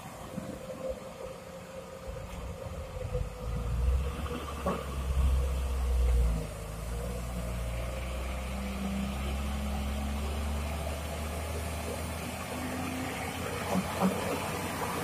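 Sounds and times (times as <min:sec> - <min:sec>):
truck diesel engine at low revs: 0:00.0 - 0:15.0.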